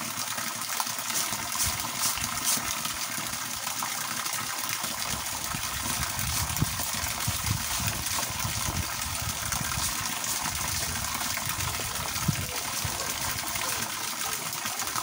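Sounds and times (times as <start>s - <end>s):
hose water splashing: 0.0s - 15.0s.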